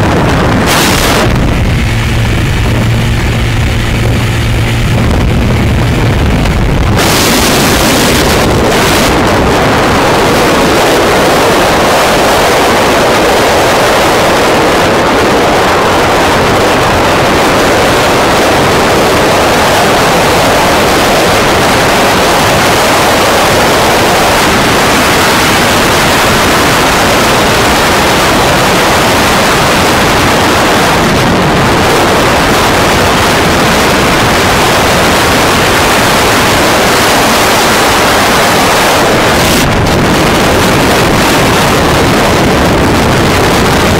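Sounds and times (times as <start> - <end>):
low engine hum: 0.0 - 43.9
wind rushing over microphone: 0.0 - 43.9.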